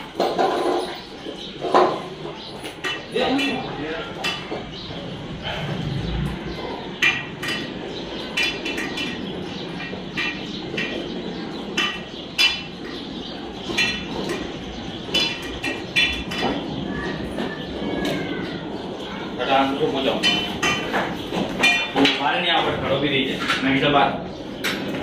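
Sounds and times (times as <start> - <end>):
metal dog bowls clinking: 0.0 - 18.3, 19.0 - 23.9.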